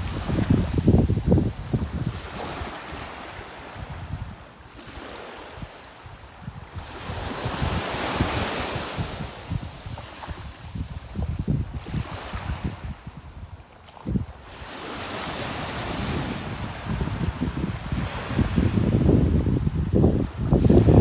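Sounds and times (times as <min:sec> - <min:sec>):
sea waves washing on beach: 0:00.0 - 0:21.0
wind buffeting microphone: 0:00.0 - 0:21.0.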